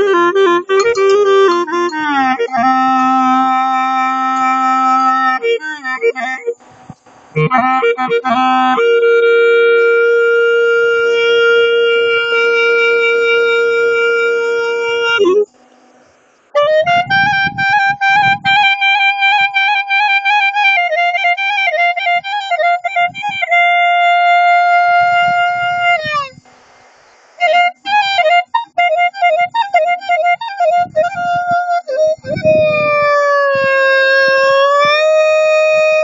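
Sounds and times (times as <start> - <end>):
clarinet solo: 0.0 - 15.7, 16.5 - 26.6, 27.4 - 36.0.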